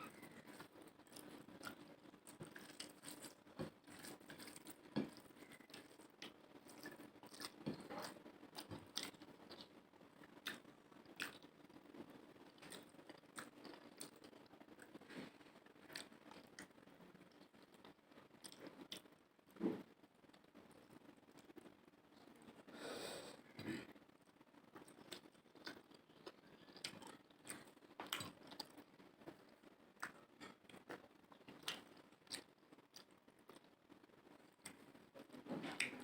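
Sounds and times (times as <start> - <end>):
person chewing food: 0.0 - 22.7, 23.4 - 36.0.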